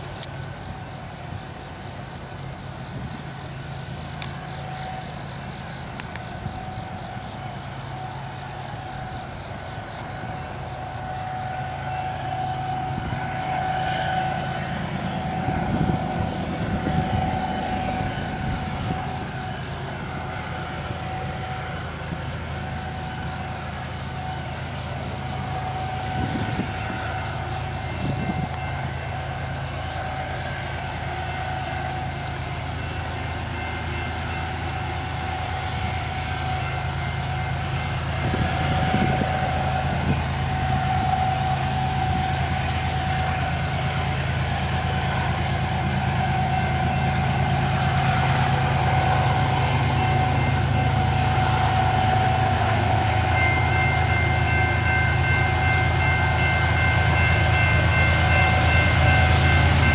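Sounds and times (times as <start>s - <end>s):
diesel locomotive rumble: 0.0s - 59.9s
high-pitched hum: 2.9s - 59.9s.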